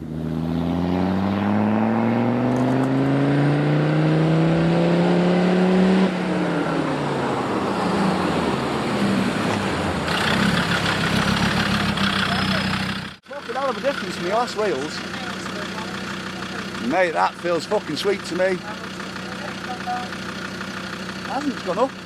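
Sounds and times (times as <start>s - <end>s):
diesel engine accelerating hard: 0.0s - 22.0s.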